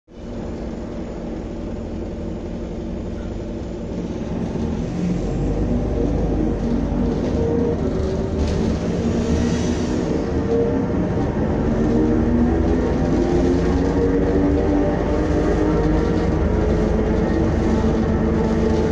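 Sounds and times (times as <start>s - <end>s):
bus diesel engine droning: 0.1s - 18.9s.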